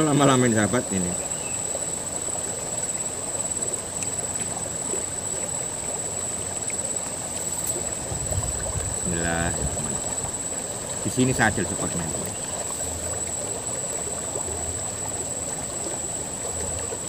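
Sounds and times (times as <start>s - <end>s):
high-pitched insect note: 0.0s - 16.7s
river flowing over stones: 0.0s - 17.0s.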